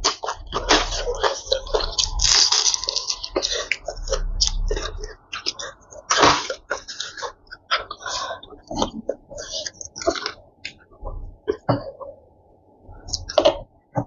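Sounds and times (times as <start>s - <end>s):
chewing and smacking: 0.0s - 12.0s.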